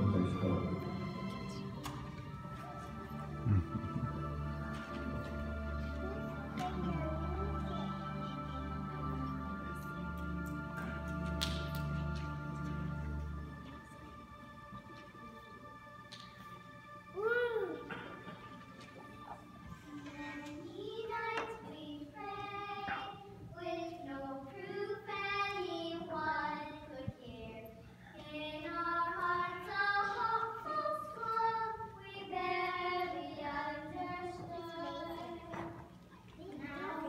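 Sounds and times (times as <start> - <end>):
children singing slow melody: 0.0 - 10.8, 17.0 - 37.0.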